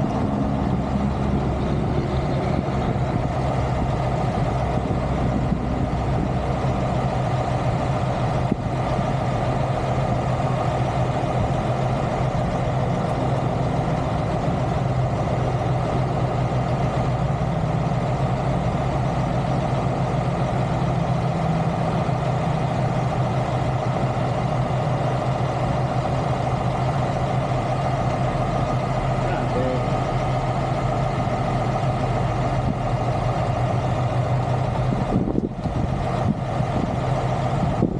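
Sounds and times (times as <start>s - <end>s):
diesel truck engine idling: 0.0s - 37.9s.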